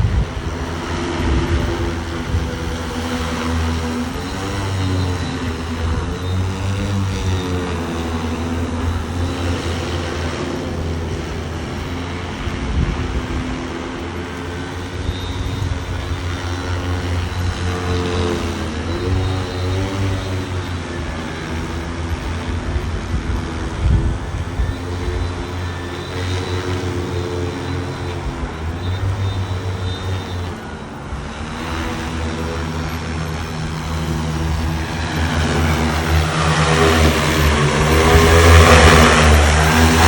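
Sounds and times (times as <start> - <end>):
drone rotors humming: 0.0 - 40.0.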